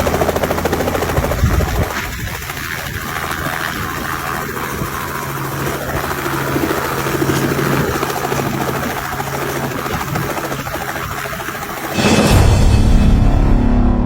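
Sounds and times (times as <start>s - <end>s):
helicopter in flight: 0.0s - 13.6s.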